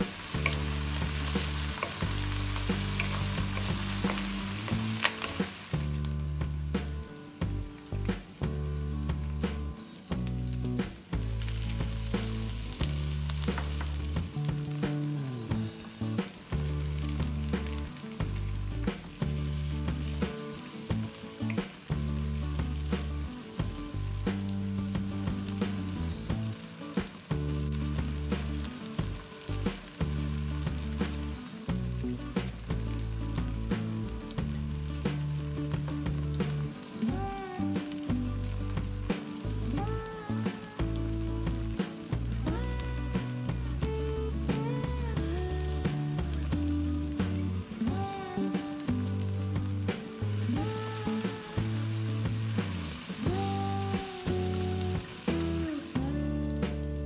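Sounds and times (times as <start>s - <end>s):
background music with low notes: 0.0s - 57.0s
vegetables sizzling in a wok: 0.0s - 57.0s.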